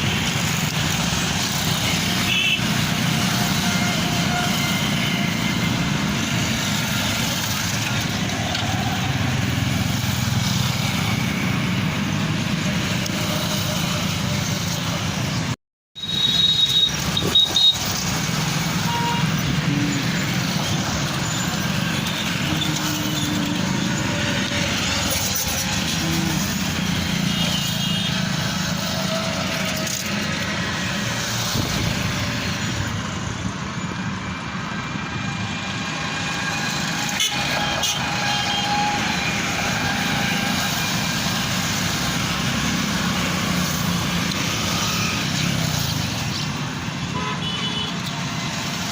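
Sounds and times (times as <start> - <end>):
road traffic passing: 0.0 - 48.9.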